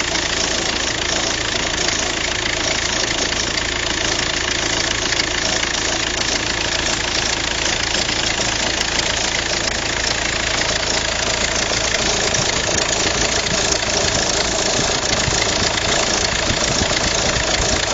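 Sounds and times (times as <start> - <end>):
car engine idling: 0.0 - 17.9
drive belt noise: 0.0 - 17.9.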